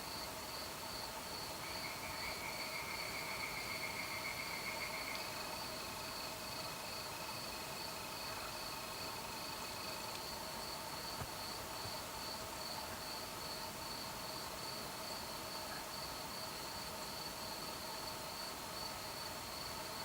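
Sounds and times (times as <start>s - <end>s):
crickets trilling: 0.1s - 20.0s.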